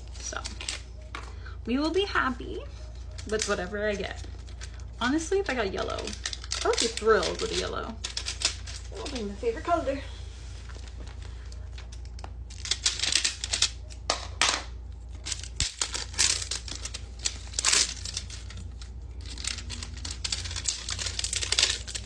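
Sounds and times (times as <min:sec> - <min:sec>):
packaging crinkling and tearing: 0:00.0 - 0:01.1, 0:02.8 - 0:09.4, 0:10.6 - 0:22.0.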